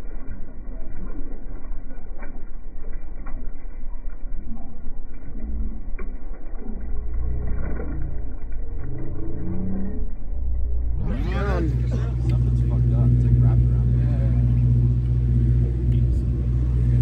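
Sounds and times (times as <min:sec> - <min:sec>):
boat engine rumble: 0:00.0 - 0:17.0
water sloshing in a tank: 0:00.0 - 0:17.0.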